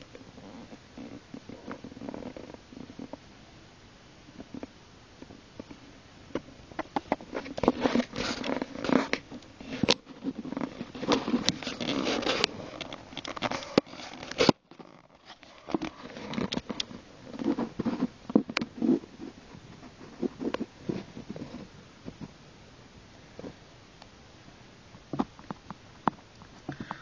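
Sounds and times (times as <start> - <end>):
rustling and crackling: 0.0 - 3.4, 4.3 - 27.0.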